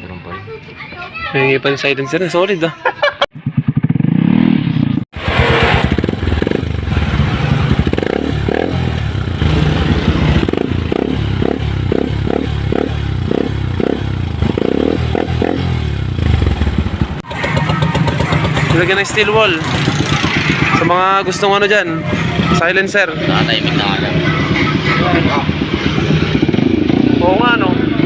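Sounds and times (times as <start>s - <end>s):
motorcycle engine revving: 3.3s - 28.0s.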